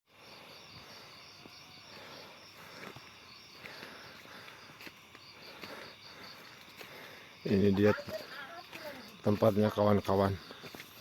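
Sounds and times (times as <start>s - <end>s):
insects chirping in pulsing trill: 0.1s - 11.0s.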